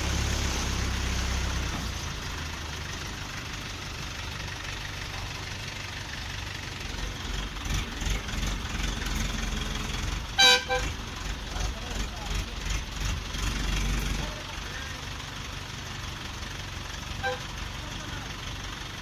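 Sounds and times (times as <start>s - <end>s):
heavy machine engine idling: 0.0s - 19.0s.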